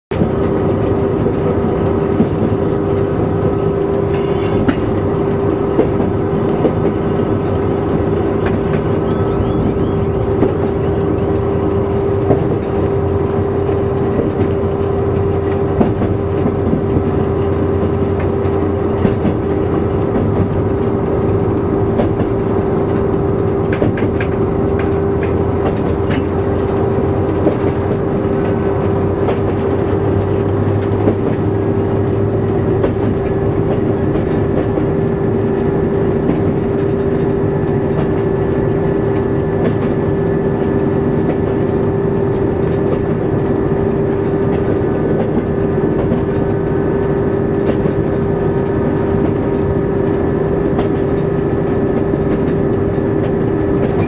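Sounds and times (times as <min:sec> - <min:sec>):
train running at speed: 0:00.1 - 0:54.0
wheels clicking over rail joints: 0:00.1 - 0:54.0.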